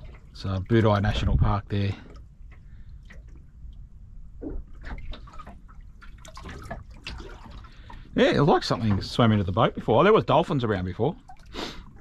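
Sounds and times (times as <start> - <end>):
low rumble of wind: 0.0 - 12.0
waves lapping against boat hull: 0.0 - 12.0.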